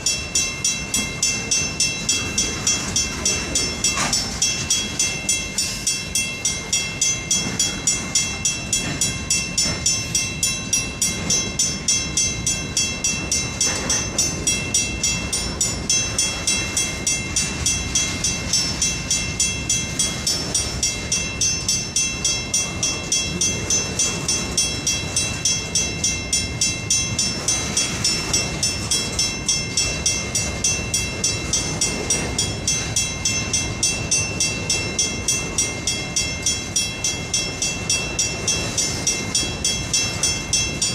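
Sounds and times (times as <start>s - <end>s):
freight train rumble: 0.0s - 40.9s
rapid even ringing: 0.0s - 40.9s.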